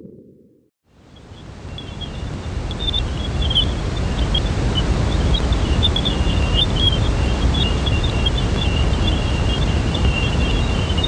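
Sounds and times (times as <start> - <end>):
steady rushing hiss: 0.9 - 11.0
high crackles: 1.3 - 11.0
deep rumble: 1.5 - 11.0.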